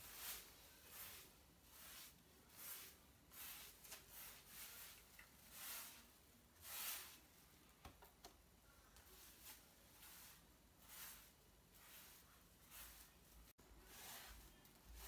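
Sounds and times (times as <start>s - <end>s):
paint brush swishing on wall: 0.0s - 7.6s, 8.6s - 15.0s.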